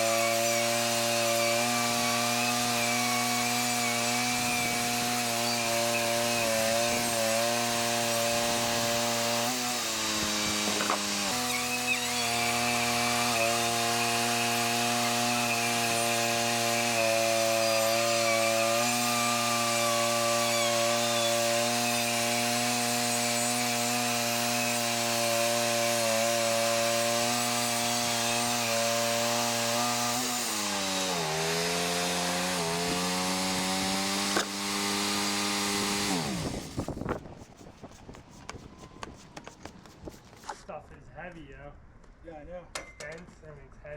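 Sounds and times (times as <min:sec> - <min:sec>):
band sawmill cutting log: 0:00.0 - 0:40.6.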